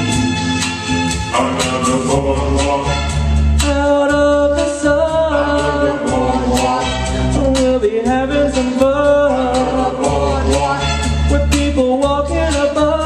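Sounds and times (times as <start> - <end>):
bass line: 0.0 - 13.0
male vocal group singing harmony: 1.3 - 13.0.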